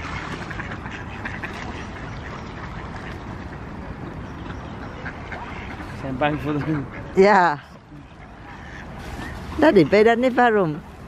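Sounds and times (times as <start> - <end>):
ducks quacking: 0.0 - 10.5.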